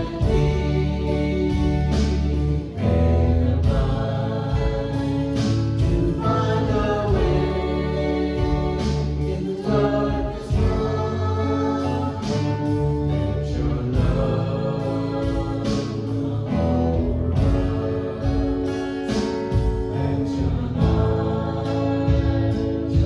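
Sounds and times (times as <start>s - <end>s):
voices singing together: 0.0s - 23.0s.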